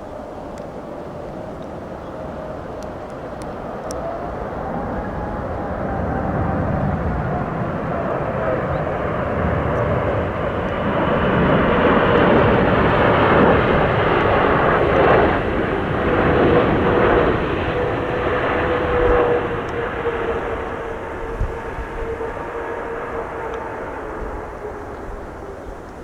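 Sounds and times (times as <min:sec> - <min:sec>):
jet airliner passing: 0:00.0 - 0:26.0
wind rumbling on microphone: 0:00.0 - 0:26.0.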